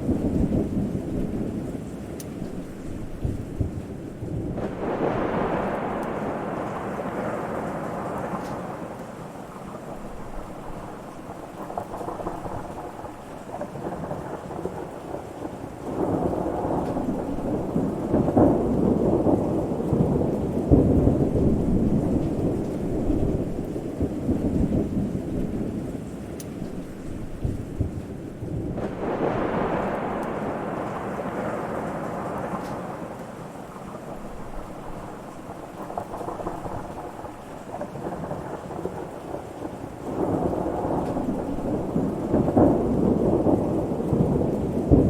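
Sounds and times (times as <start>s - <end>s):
rain falling steadily: 0.0s - 45.0s
rolling thunder rumbling: 0.0s - 45.0s.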